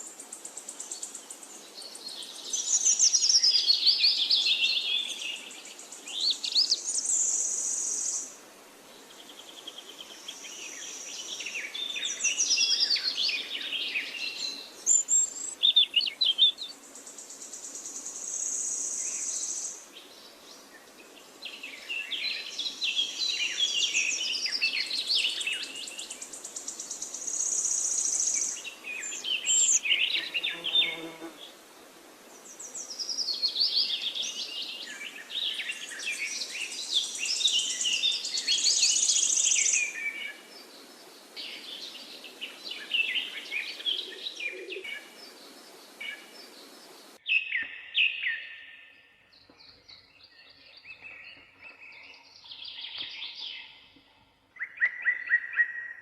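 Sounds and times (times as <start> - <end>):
steady background hiss: 0.0 - 47.3
songbirds chirping and trilling: 0.0 - 56.0.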